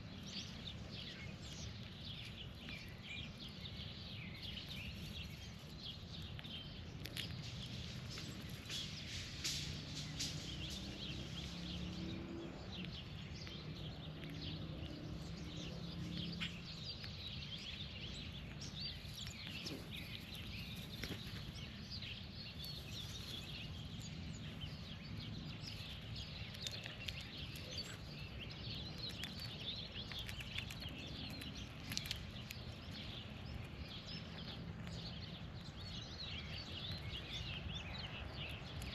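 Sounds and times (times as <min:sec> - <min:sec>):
birds chirping: 0:00.0 - 0:38.9
low outdoor rumble: 0:00.0 - 0:38.9.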